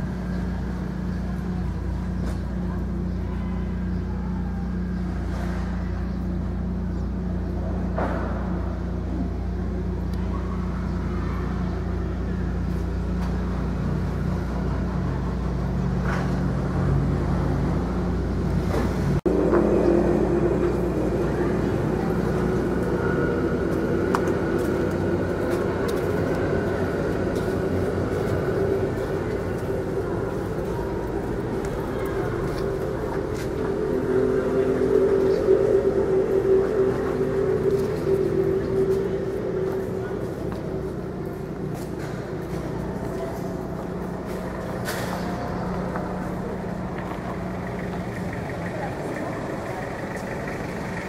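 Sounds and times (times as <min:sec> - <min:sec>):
vehicle engine running: 0:00.0 - 0:51.0.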